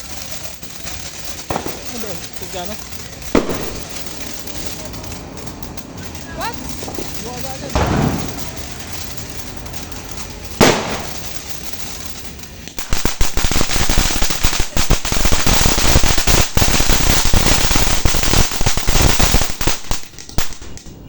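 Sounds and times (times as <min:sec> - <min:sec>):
firework fountain crackling: 0:00.0 - 0:21.0
sharp firework crack: 0:00.0 - 0:21.0.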